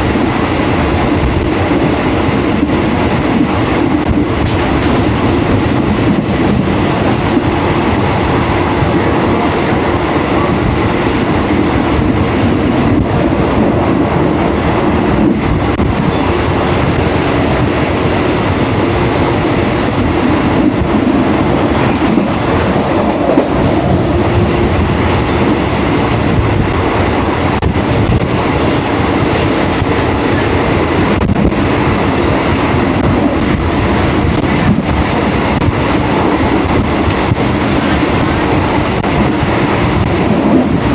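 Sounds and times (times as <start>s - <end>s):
train rumbling on rails: 0.0s - 40.9s
wheels clickety-clack: 0.7s - 14.5s, 15.1s - 40.9s.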